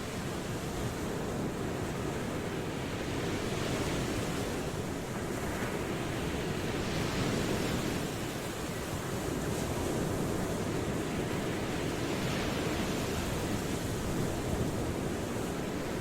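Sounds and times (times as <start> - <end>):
ocean waves washing onto shore: 0.0 - 16.0.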